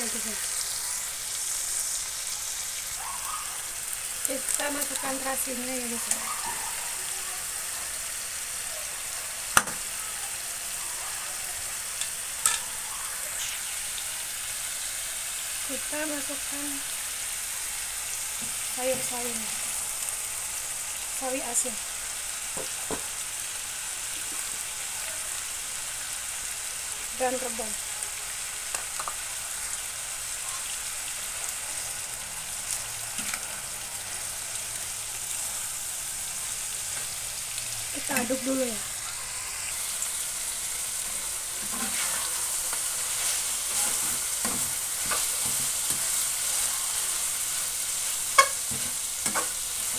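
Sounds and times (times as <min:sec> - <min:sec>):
spice paste sizzling in pan: 0:00.0 - 0:49.9.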